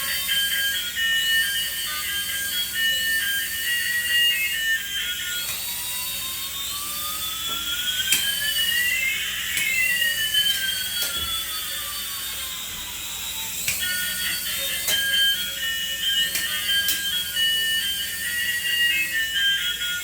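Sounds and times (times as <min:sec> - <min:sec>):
electronic gliding tones: 0:00.0 - 0:20.0.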